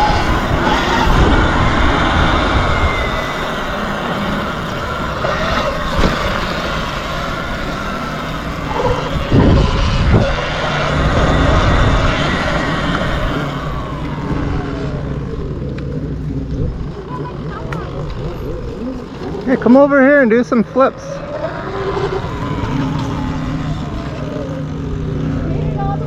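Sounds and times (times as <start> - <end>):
passing vehicle motor whine: 0.0 - 26.0.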